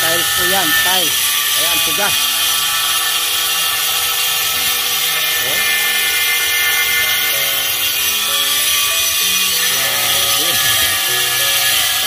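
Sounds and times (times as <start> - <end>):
angle grinder cutting tile: 0.0 - 12.0.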